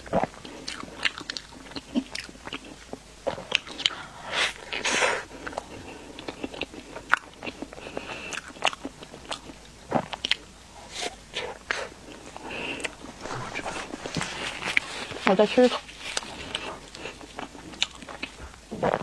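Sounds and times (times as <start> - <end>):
chewing pastry: 0.0 - 19.0
crunchy bites: 0.0 - 19.0
wet mouth clicks: 0.0 - 19.0.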